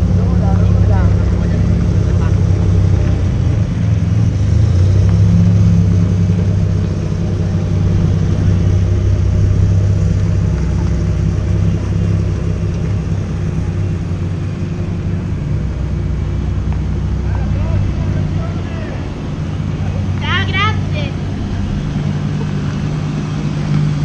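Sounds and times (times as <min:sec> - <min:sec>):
car engines rumbling: 0:00.0 - 0:24.0.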